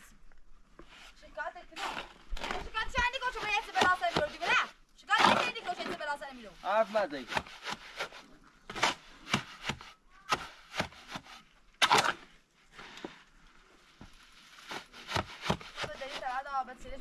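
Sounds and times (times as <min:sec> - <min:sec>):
shovel scraping wet cement: 0:00.8 - 0:13.0, 0:14.4 - 0:16.5.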